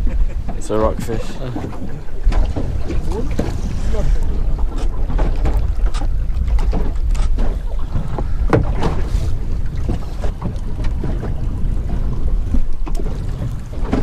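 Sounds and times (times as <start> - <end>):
water slapping boat hull: 0.0 - 14.0
wind buffeting microphone: 0.0 - 14.0.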